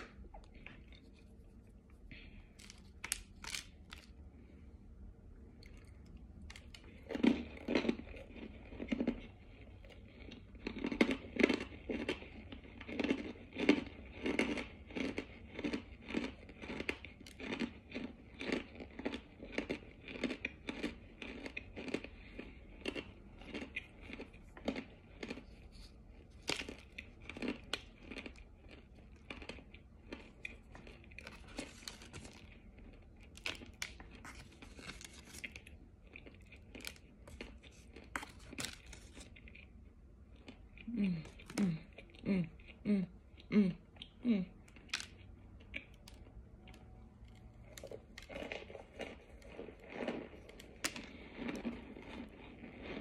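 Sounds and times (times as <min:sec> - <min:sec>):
crunching and chewing: 0:00.0 - 0:04.6, 0:05.4 - 0:53.0.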